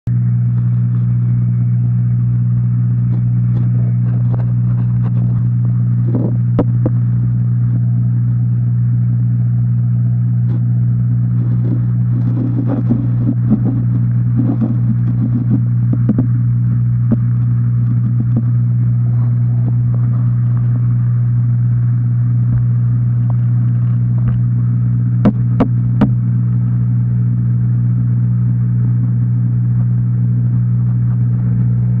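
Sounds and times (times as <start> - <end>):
aquarium pump humming: 0.1 - 32.0.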